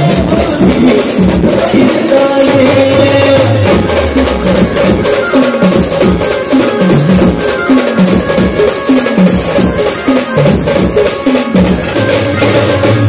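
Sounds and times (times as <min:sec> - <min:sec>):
drums: 0:00.0 - 0:13.0
loud band music over sound system: 0:00.0 - 0:13.0.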